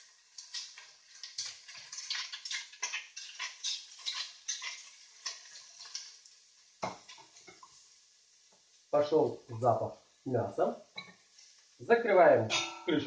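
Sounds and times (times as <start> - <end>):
meat sizzling: 0.0 - 13.0.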